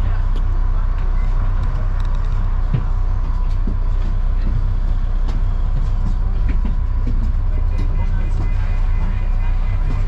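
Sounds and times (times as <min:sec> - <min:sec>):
bus engine drone: 0:00.0 - 0:10.0
body rattles and clicks: 0:01.6 - 0:10.0.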